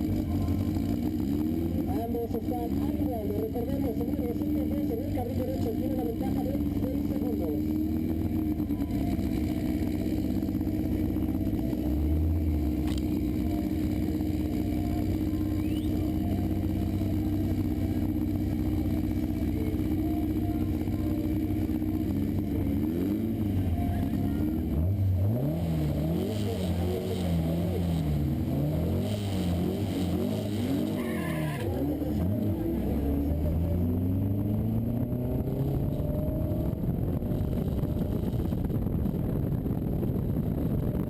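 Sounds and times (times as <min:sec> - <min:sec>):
car engines idling and revving: 0:00.0 - 0:41.0.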